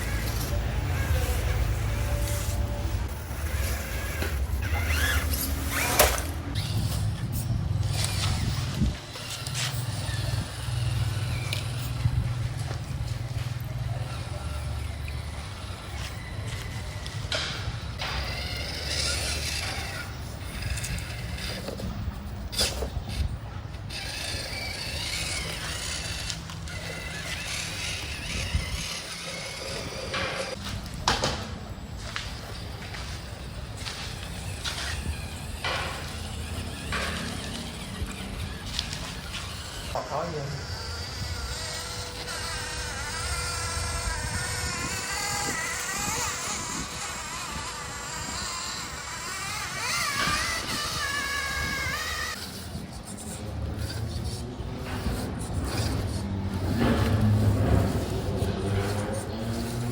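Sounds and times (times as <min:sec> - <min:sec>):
toy car motor whining: 0:00.0 - 0:30.7, 0:31.8 - 0:59.9.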